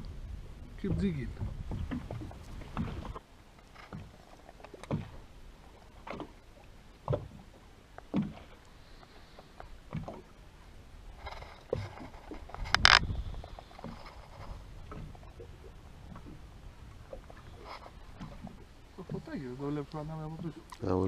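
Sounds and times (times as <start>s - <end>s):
waves slapping against boat hull: 0.0s - 21.0s.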